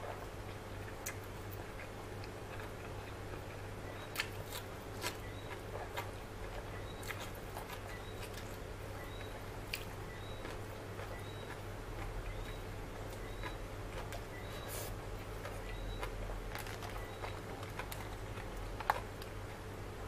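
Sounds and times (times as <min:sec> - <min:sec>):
crunchy chewing of greens: 0:00.0 - 0:20.0
steady low hum: 0:00.0 - 0:20.0.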